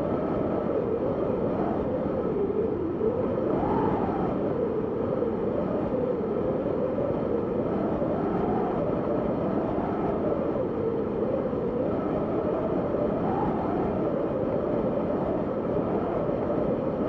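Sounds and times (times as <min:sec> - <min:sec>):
rushing wind with low howl: 0:00.0 - 0:17.0.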